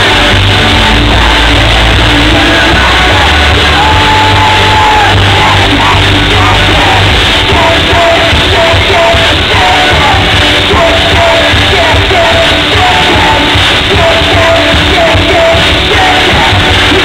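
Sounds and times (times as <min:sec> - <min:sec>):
crowd yelling: 0:00.0 - 0:17.0
person singing: 0:00.0 - 0:17.0
pop-rock band playing loud: 0:00.0 - 0:17.0.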